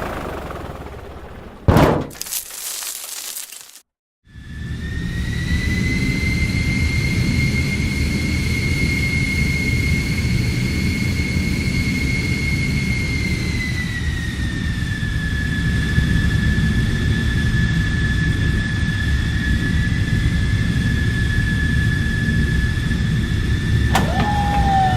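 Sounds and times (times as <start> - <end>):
jet-like engine whine: 4.3 - 24.9.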